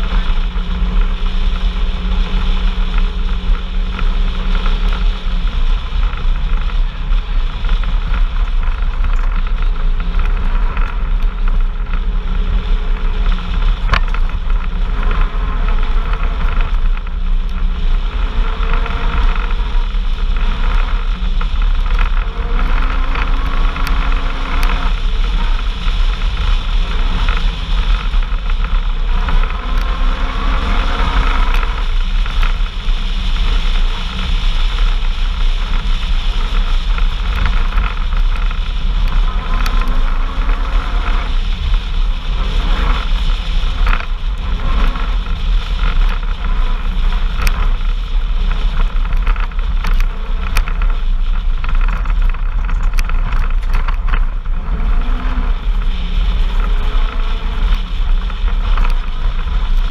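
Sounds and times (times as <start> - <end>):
road and wind noise: 0.0 - 59.9
vehicle engine running: 0.0 - 59.9.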